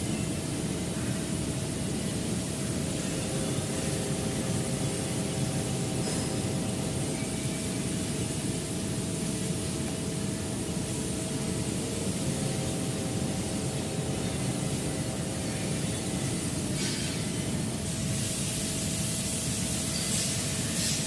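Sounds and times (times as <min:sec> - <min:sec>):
cnc router rumble: 0:00.0 - 0:18.3.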